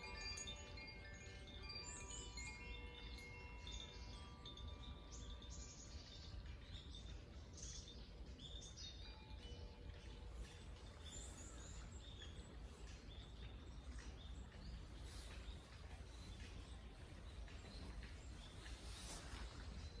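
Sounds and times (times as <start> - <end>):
small birds chirping: 0.0 - 20.0
wind chimes ringing: 0.0 - 20.0.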